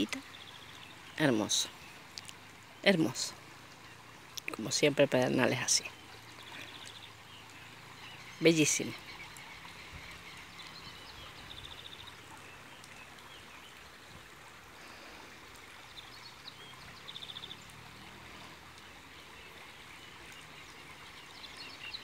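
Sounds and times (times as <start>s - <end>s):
stream flowing over stones: 0.0s - 22.0s.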